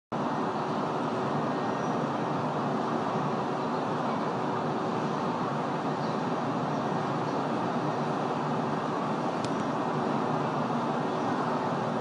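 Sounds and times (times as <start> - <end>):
city traffic noise: 0.1 - 12.0.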